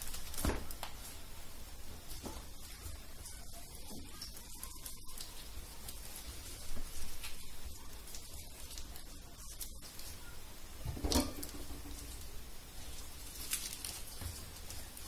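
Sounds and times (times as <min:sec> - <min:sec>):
low steady hum: 0:00.0 - 0:15.0
vegetable leaves pattering and clicking: 0:00.0 - 0:15.0.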